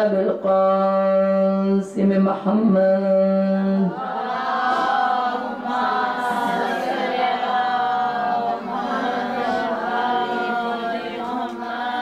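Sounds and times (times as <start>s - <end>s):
woman chanting melodically: 0.0s - 12.0s.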